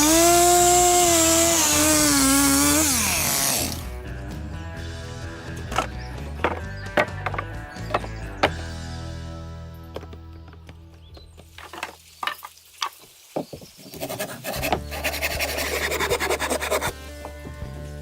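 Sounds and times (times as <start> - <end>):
background music with held tones: 0.0 - 11.6, 14.6 - 18.0.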